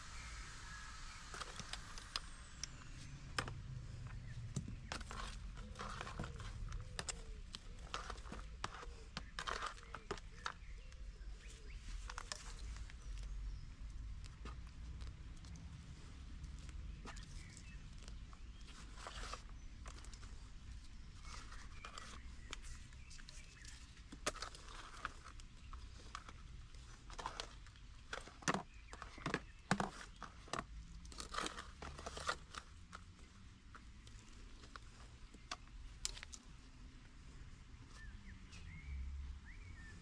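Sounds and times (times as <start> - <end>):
soil scratching in plastic pots: 0.0 - 39.0.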